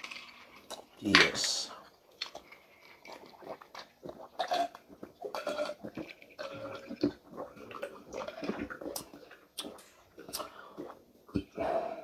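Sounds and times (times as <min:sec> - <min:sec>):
people gulping drinks: 0:00.0 - 0:12.0.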